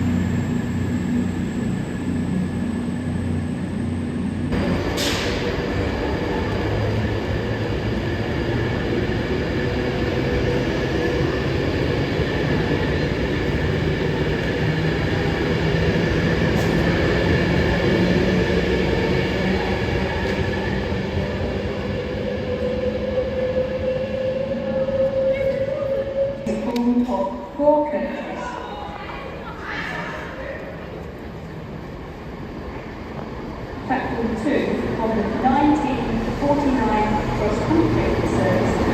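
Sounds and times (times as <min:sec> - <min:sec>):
rail noise: 0:00.0 - 0:38.9.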